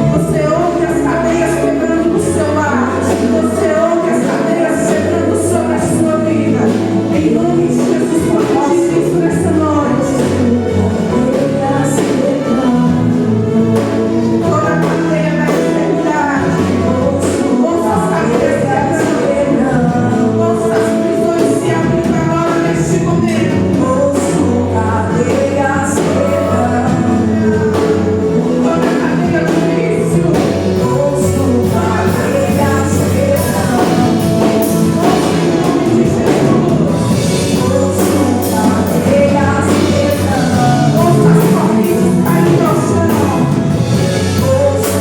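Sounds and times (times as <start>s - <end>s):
band with steady beat: 0.0s - 45.0s
voices singing: 0.0s - 45.0s.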